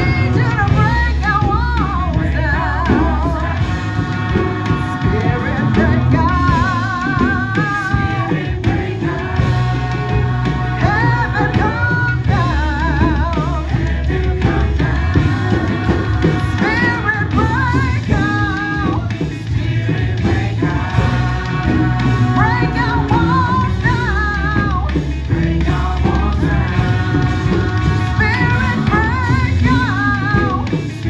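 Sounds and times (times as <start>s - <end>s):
band with steady bass: 0.0s - 31.0s
person singing: 0.0s - 31.0s.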